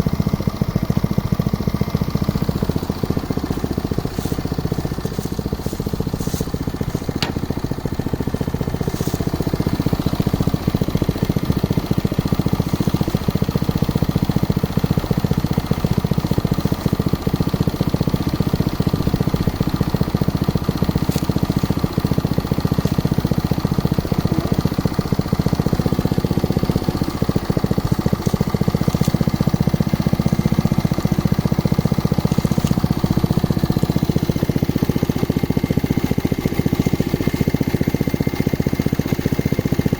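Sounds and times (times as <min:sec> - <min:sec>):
drilling rig engine running: 0:00.0 - 0:39.9.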